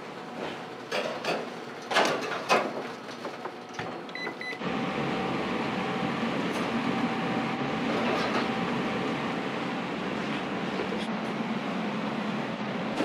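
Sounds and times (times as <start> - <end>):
oven fan whirring: 0.0 - 13.0.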